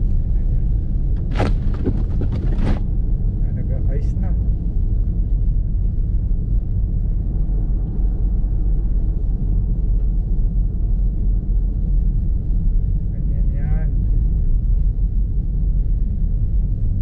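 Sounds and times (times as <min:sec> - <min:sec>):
car driving on icy road: 0:00.0 - 0:17.0.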